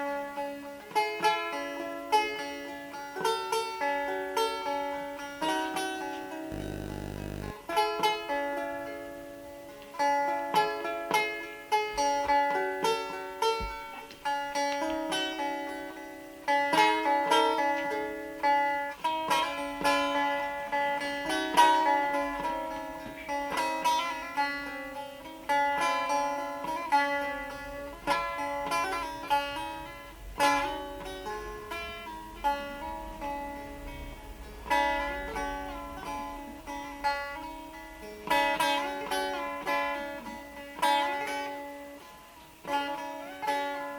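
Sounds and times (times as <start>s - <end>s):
plucked lute melody: 0.0s - 43.9s.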